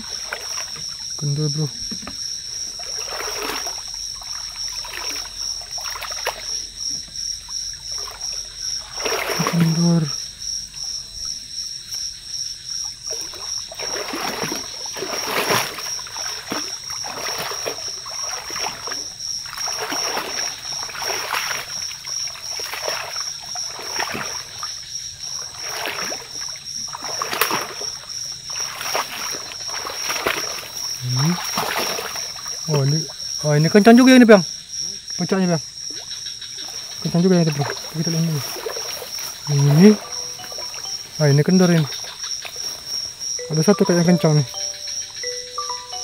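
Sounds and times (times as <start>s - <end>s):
person wading through water: 0.0s - 11.3s, 12.8s - 33.4s, 35.8s - 46.0s
insect chorus: 0.0s - 46.0s.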